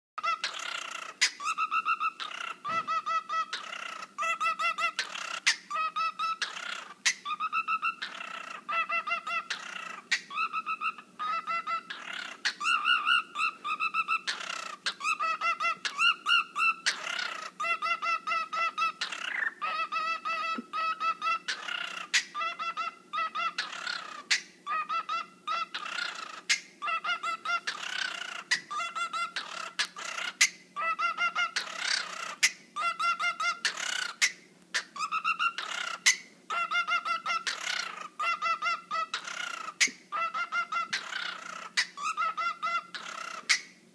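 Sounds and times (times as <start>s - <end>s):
cockatiel squawks: 0.2s - 43.7s
cockatiel warbling: 0.2s - 43.8s.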